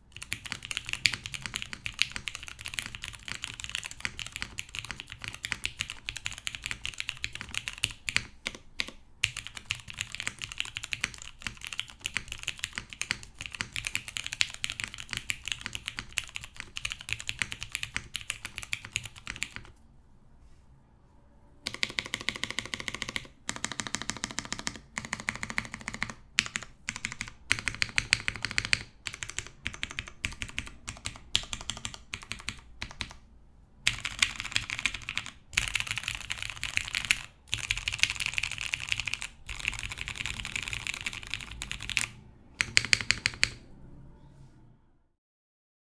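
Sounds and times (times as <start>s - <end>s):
mechanical keyboard typing: 0.1s - 19.7s, 21.7s - 33.2s, 33.9s - 43.6s.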